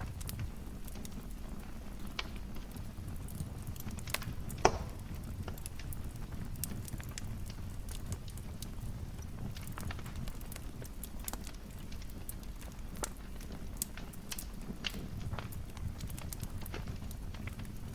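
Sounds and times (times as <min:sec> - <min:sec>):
fire crackling and popping: 0:00.0 - 0:17.9
fire rumbling: 0:00.0 - 0:17.9.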